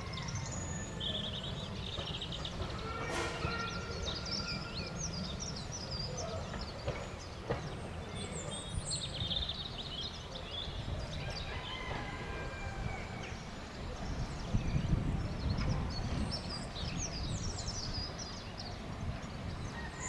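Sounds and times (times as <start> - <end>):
songbirds twittering: 0.0 - 20.0.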